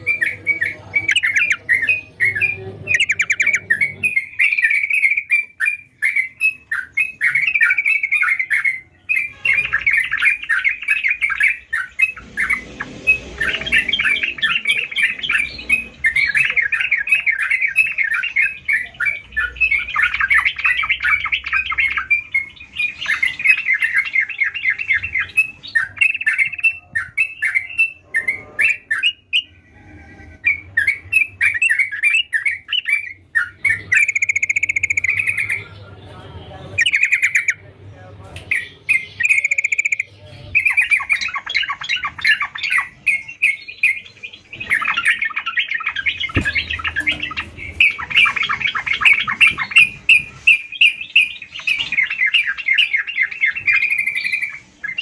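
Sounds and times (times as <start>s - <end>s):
bird chattering song: 0.0s - 55.0s.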